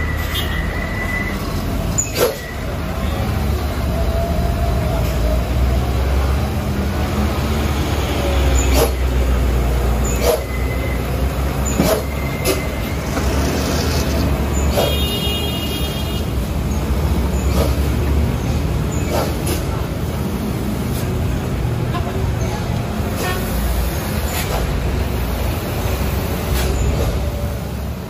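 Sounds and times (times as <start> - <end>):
diesel truck engines rumbling: 0.0 - 28.0.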